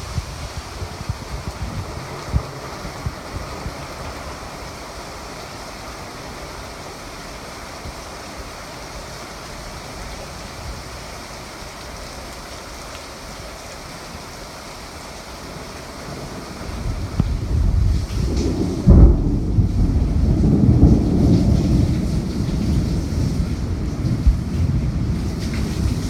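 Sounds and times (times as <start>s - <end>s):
heavy rain pouring: 0.0s - 26.0s
wind gusts on microphone: 0.0s - 26.0s.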